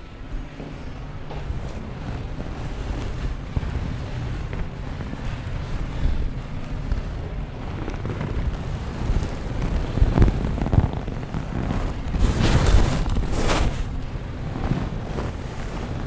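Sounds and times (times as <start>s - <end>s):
curtain fabric being pulled: 0.0s - 16.0s
microphone handling rumble: 0.0s - 16.0s.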